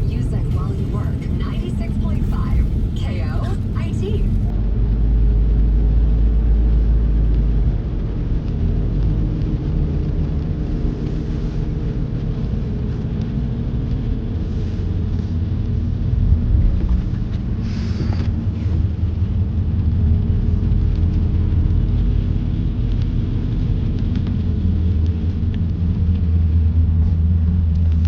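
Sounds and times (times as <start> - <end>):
van road rumble: 0.0 - 28.0.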